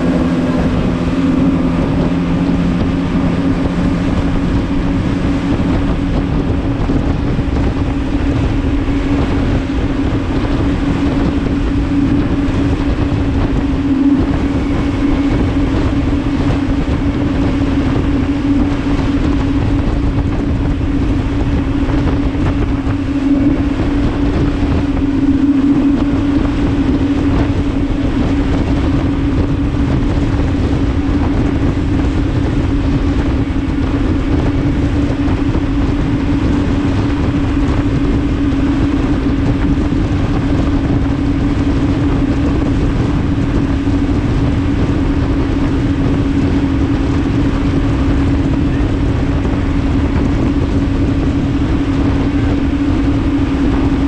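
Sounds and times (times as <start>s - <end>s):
speedboat engine drone: 0.0s - 54.0s
wind and wake spray rushing: 0.0s - 54.0s.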